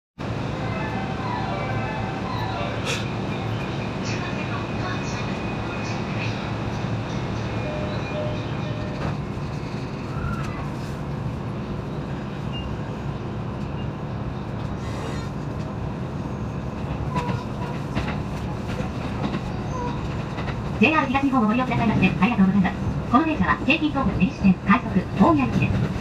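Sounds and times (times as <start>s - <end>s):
electric train running rumble: 0.2s - 26.0s.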